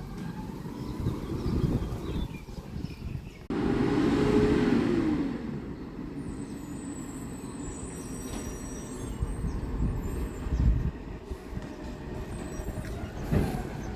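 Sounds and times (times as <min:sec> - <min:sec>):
garbage truck engine rumbling: 0:00.0 - 0:13.9.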